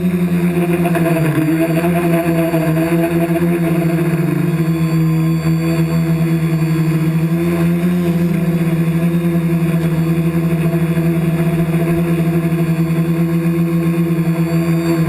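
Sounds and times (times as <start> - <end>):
remote-control helicopter drone: 0.0 - 15.0.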